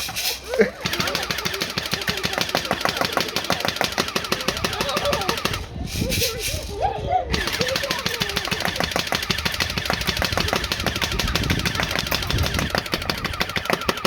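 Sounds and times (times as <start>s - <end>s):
bb gun firing rapidly: 0.8s - 6.7s, 7.3s - 14.0s.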